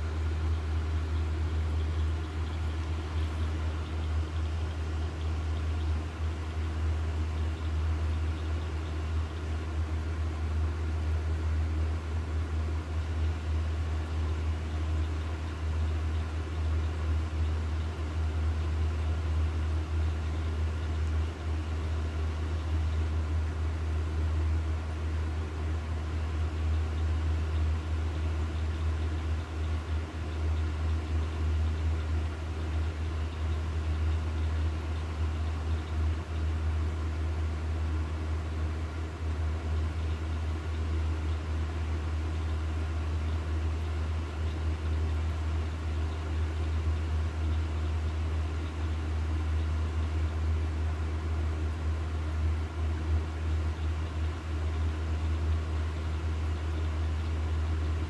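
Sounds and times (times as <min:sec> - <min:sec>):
constant hiss: 0:00.0 - 0:58.0
steady low hum: 0:00.0 - 0:58.0.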